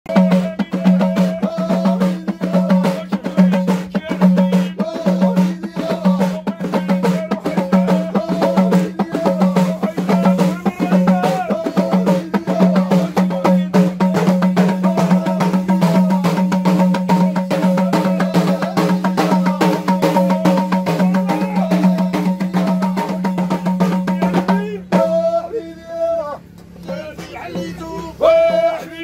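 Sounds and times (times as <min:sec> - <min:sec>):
frame drum and hand drums: 0:00.1 - 0:25.6, 0:26.4 - 0:29.0
men singing in chorus: 0:00.1 - 0:29.0.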